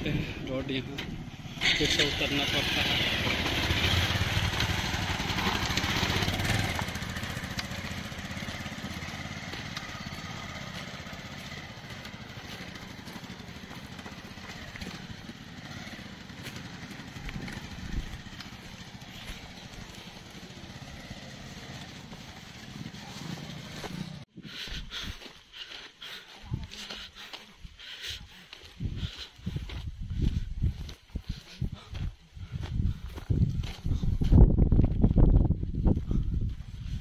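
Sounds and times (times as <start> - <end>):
motorcycle engine running: 0.0 - 24.3, 28.1 - 37.0.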